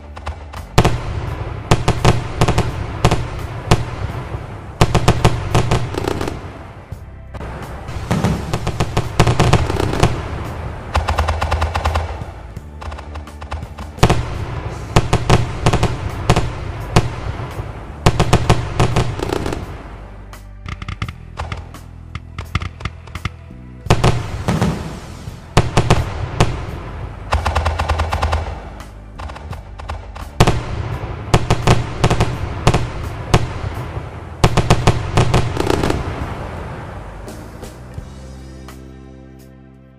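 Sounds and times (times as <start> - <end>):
fireworks bangs and crackling pops: 0.0 - 20.0, 20.6 - 38.1.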